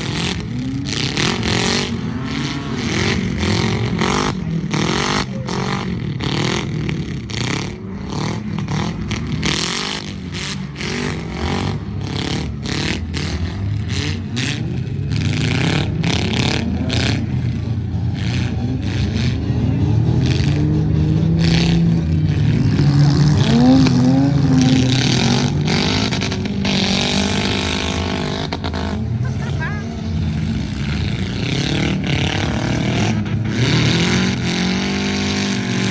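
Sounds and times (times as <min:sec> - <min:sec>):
truck engines revving: 0:00.0 - 0:35.9.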